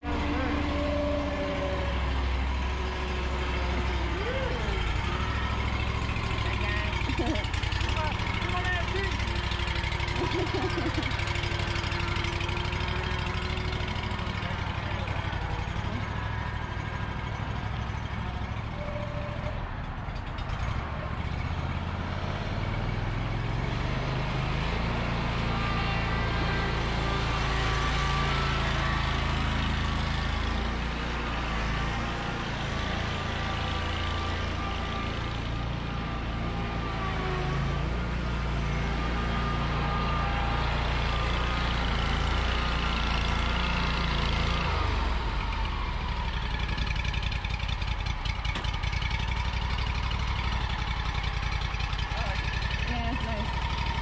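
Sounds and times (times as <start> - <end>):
mower engine running: 0.0 - 54.0.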